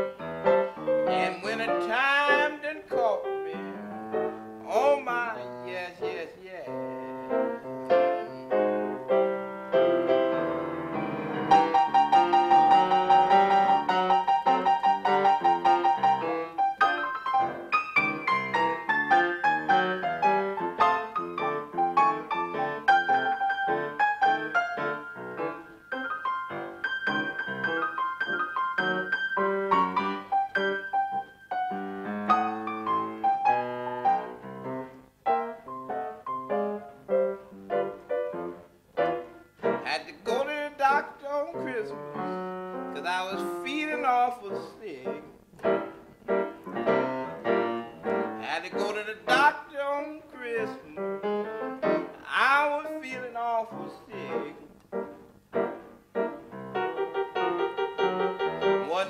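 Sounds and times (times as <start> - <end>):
blues piano: 0.0 - 59.0.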